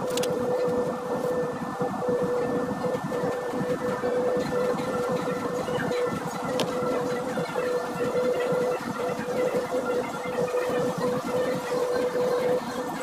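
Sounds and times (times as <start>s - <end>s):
electric polishing tool humming: 2.1s - 12.9s.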